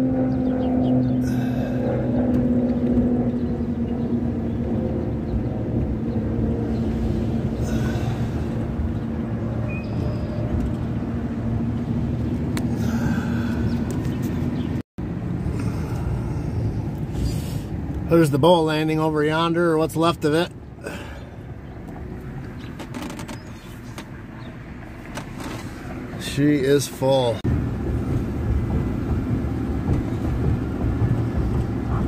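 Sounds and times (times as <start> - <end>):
car engine and road hum: 0.0 - 32.0.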